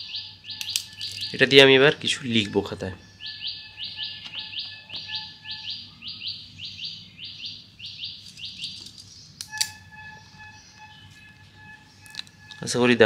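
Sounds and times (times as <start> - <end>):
small bird chirping: 0.0 - 12.9.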